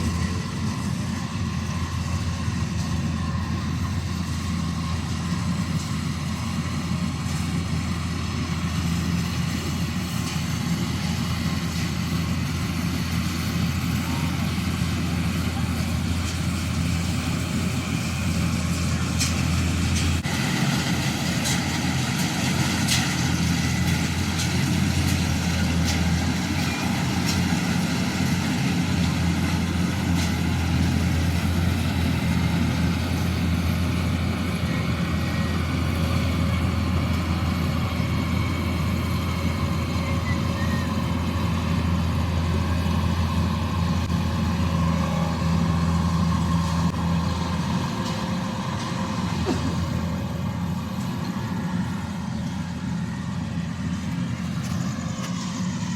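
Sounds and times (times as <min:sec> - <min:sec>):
combine harvester engine hum: 0:00.0 - 0:55.9.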